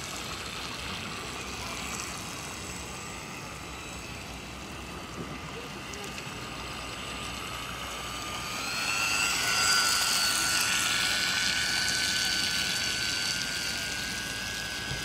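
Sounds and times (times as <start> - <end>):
toy boat motor whining: 0.0 - 15.0.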